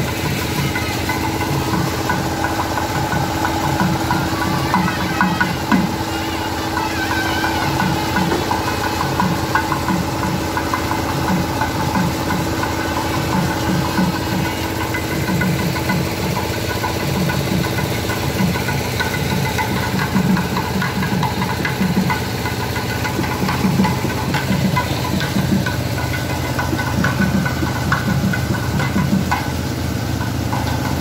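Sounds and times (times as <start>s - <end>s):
diesel tractor engine idling: 0.0s - 31.0s.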